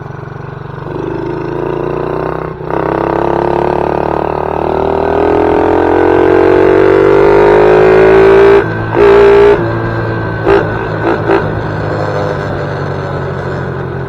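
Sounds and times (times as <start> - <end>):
engine revving: 0.9 - 14.0.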